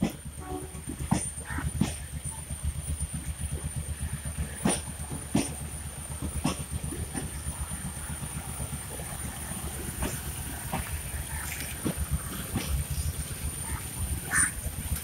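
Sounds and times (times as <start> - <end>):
train wheels rumbling and clattering: 0.0 - 15.0
wheels knocking over rail joints: 0.0 - 15.0.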